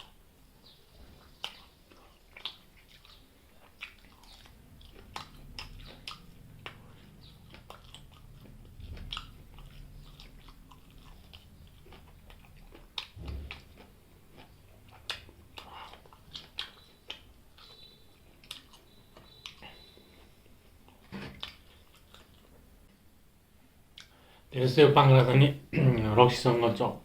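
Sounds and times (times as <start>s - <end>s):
person chewing food: 0.0s - 22.9s, 23.9s - 24.4s.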